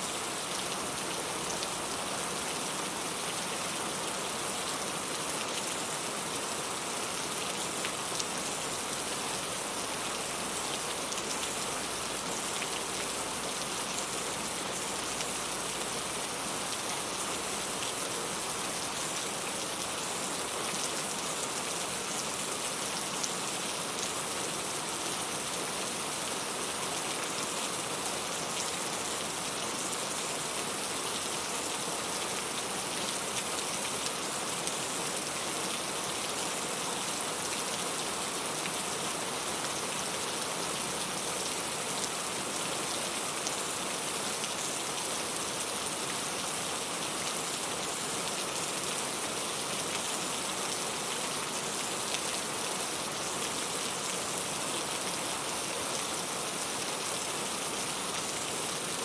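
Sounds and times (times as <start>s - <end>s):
rain pattering on a surface: 0.1s - 59.0s.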